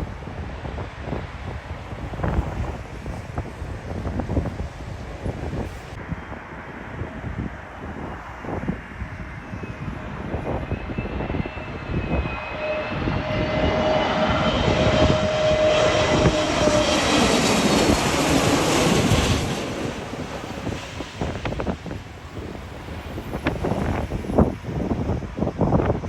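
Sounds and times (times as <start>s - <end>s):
airliner engines whining: 0.0s - 26.0s
wind buffeting microphone: 0.0s - 26.0s.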